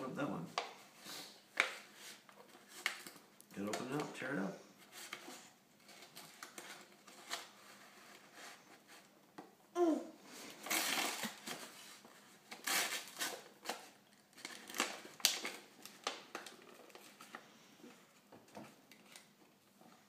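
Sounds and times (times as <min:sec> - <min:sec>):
paper wrapping crinkling: 0:00.6 - 0:09.1, 0:10.4 - 0:19.6.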